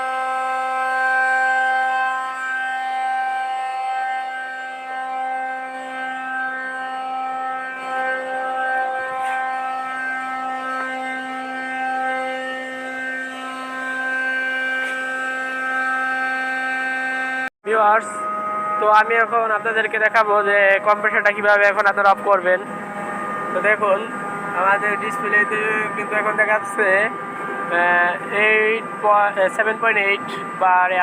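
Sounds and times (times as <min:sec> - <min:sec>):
air compressor whining: 0:00.0 - 0:31.0.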